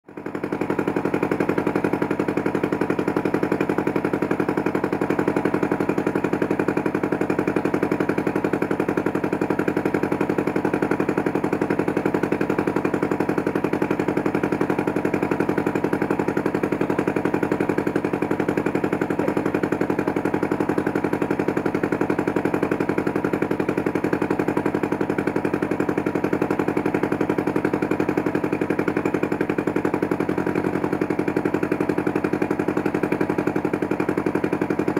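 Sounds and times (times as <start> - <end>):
boat engine chugging: 0.1 - 34.9.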